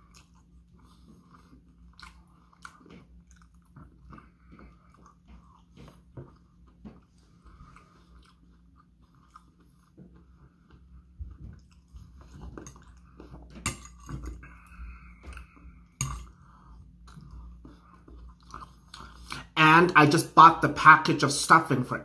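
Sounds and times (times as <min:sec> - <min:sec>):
chewing and mouth sounds: 0:00.0 - 0:19.6.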